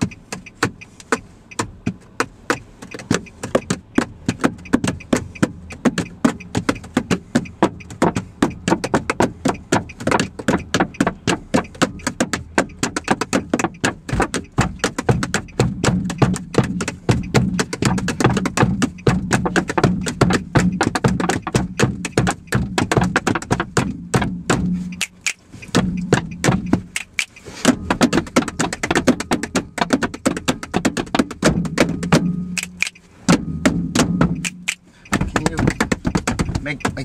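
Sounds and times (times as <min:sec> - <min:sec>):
hands drumming on dashboard: 0:00.0 - 0:37.0.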